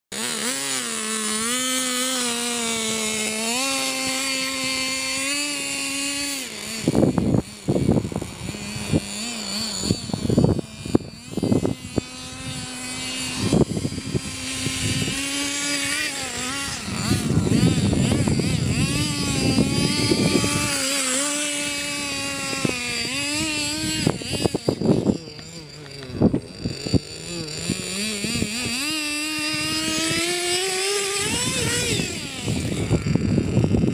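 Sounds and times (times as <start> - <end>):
toy truck motor running: 0.1 - 33.9.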